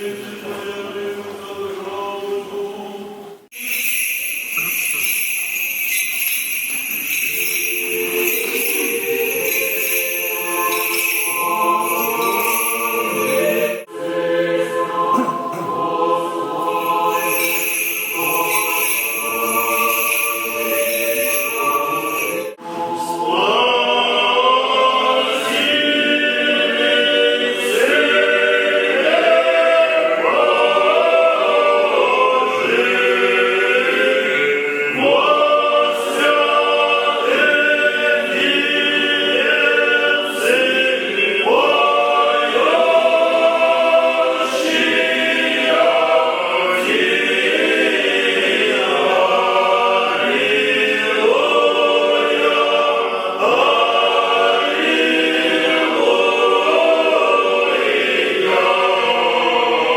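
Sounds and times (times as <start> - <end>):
choir singing unaccompanied chant: 0.0 - 59.9.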